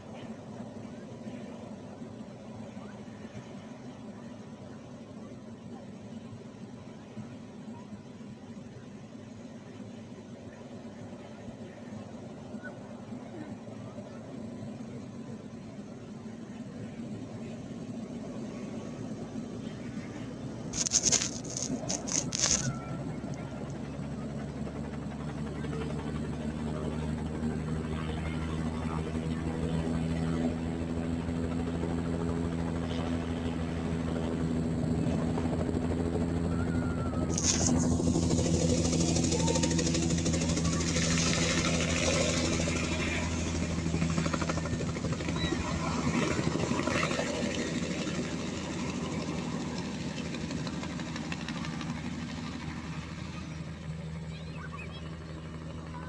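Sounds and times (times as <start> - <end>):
helicopter engine drone: 0.0 - 56.0
helicopter rotor beat: 0.0 - 56.0.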